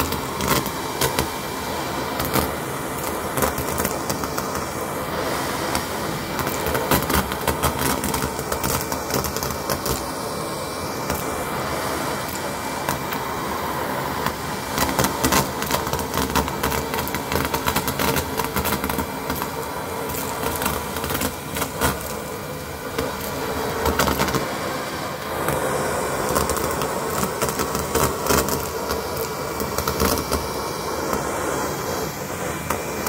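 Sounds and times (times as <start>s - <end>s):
vacuum cleaner suction: 0.0s - 33.0s.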